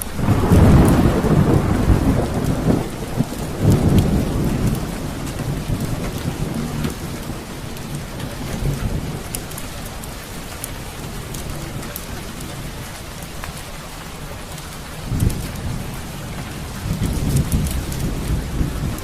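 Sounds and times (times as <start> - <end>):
low rumble of thunder: 0.0 - 19.0
steady rain: 0.0 - 19.0
wood fire crackling: 0.0 - 19.0.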